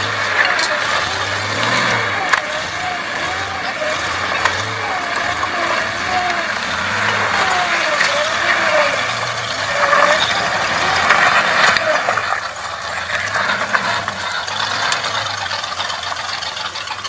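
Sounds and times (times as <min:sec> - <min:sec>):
truck engine working hard: 0:00.0 - 0:17.0.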